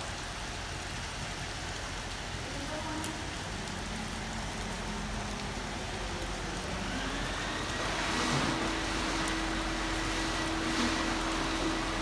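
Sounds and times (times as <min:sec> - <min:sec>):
rain hiss: 0:00.0 - 0:12.0
vehicle on wet road: 0:00.0 - 0:12.0.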